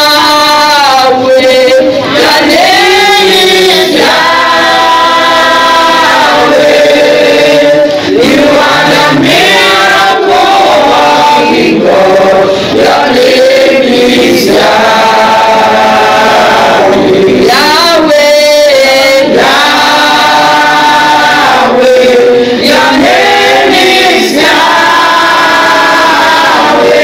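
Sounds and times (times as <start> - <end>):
group singing worship song: 0.0 - 27.0.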